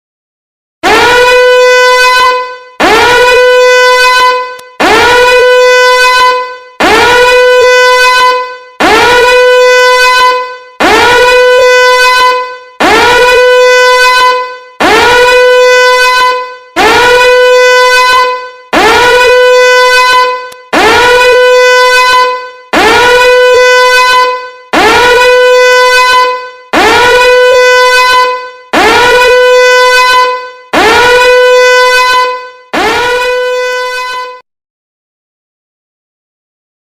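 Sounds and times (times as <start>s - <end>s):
emergency alert horn blasts: 0.8s - 34.4s.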